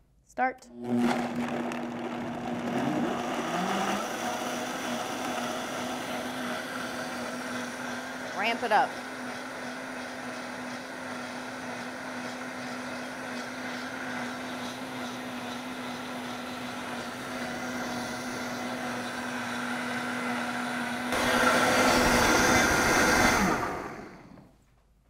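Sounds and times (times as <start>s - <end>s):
blender motor whine: 0.7s - 24.5s.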